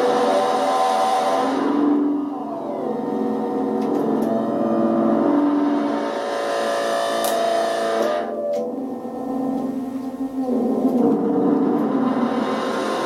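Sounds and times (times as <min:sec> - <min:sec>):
buzzy electronic synth tones: 0:00.0 - 0:13.0.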